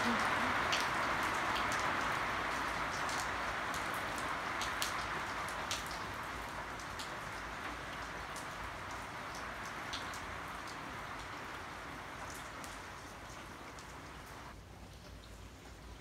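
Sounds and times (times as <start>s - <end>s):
raindrops tapping close by: 0.0s - 16.0s
steady rain falling: 0.0s - 16.0s.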